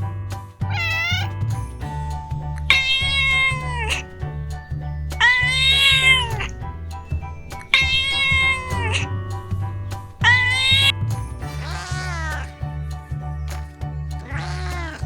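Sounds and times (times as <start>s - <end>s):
background music with bass line: 0.0s - 15.0s
cat meowing: 0.6s - 15.0s.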